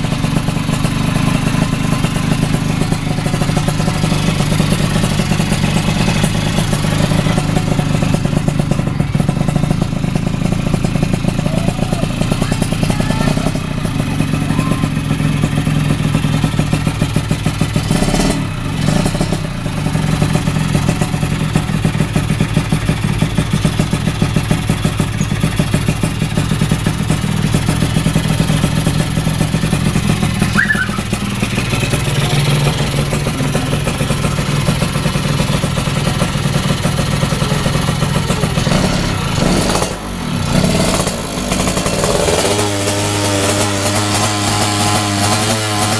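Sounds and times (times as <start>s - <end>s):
two-stroke motorcycle engine running: 0.0s - 45.9s.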